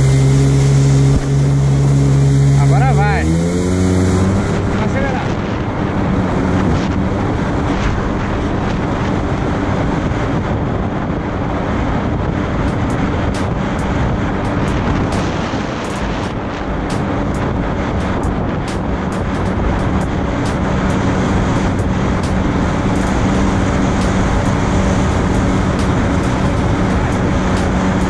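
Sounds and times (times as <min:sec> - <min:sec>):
jet ski engine hum: 0:00.0 - 0:28.0
water rushing past hull: 0:00.0 - 0:28.0
wind on microphone: 0:00.0 - 0:28.0.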